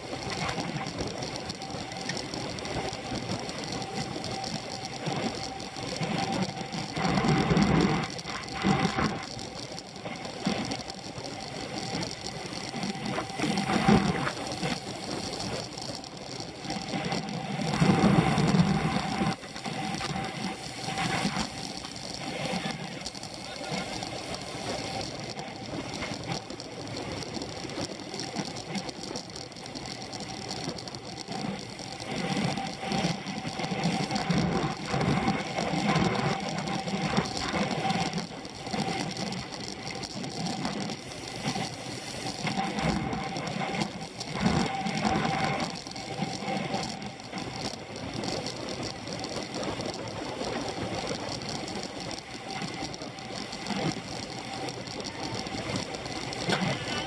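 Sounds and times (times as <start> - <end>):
bicycle drivetrain whirring: 0.0 - 57.0
road and wind noise: 0.0 - 57.0.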